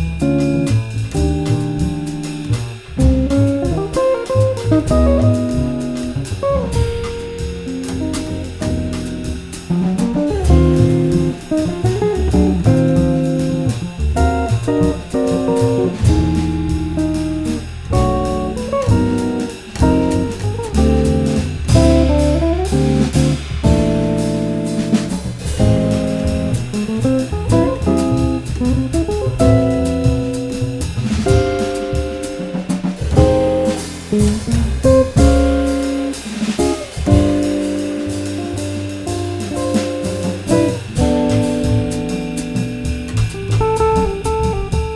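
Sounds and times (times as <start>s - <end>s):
jazz trio playing: 0.0s - 44.9s.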